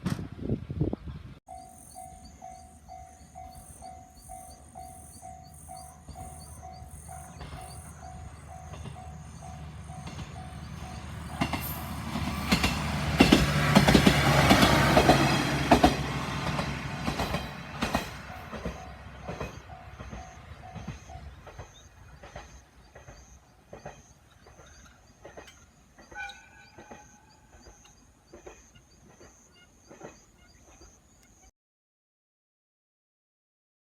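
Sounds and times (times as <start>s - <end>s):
train engine and wheels rumbling: 0.0s - 31.4s
wheels clicking over rail joints: 1.6s - 31.3s.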